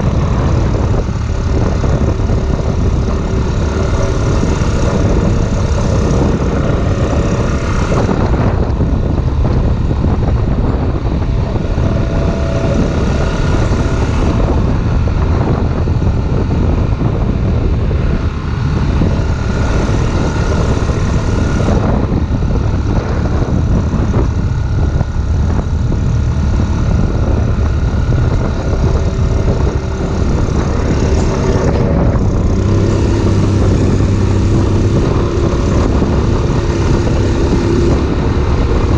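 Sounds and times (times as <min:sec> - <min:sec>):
off-road vehicle engine droning: 0:00.0 - 0:38.9
wind noise on microphone: 0:00.0 - 0:38.9.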